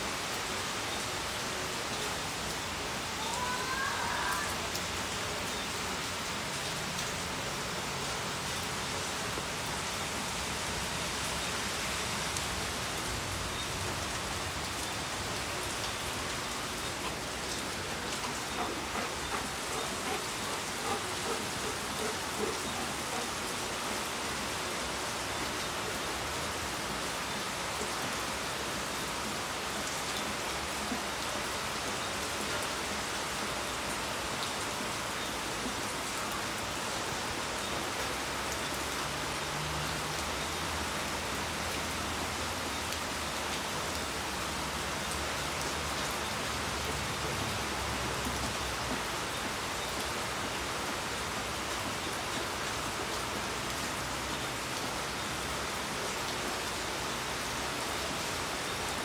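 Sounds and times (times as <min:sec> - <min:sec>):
rain on hard ground: 0:00.0 - 0:59.0.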